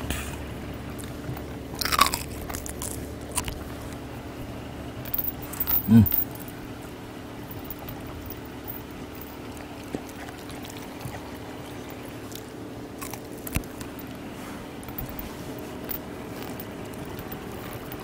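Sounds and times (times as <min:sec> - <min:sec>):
steady low hum: 0:00.0 - 0:18.0
dog chewing: 0:00.9 - 0:18.0.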